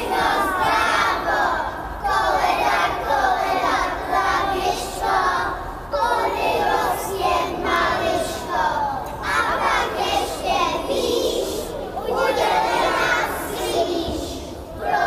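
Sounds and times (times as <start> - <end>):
young children singing in unison: 0.0 - 15.0.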